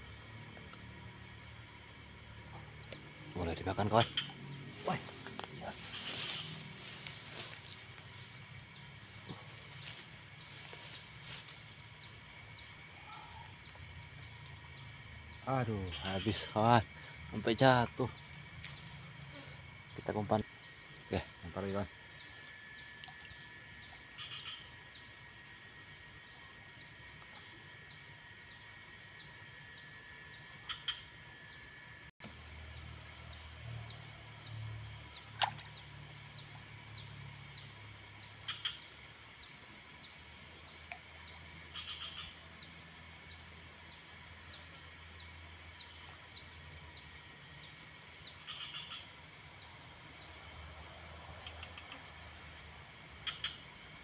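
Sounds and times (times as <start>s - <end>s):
insects droning with ticking: 0.0s - 54.0s.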